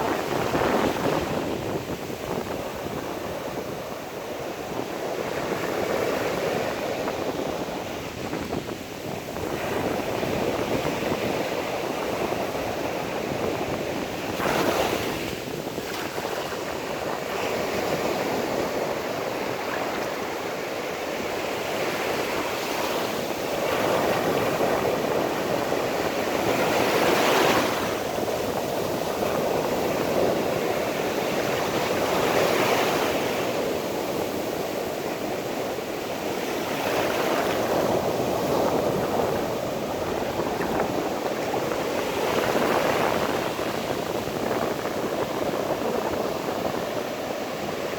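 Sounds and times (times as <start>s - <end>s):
sea waves washing onto shore: 0.0s - 47.9s.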